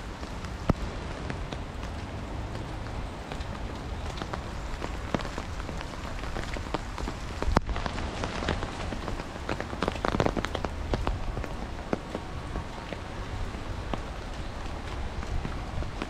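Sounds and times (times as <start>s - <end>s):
raindrops tapping on umbrella: 0.0s - 16.0s
steady hiss of rain: 0.0s - 16.0s.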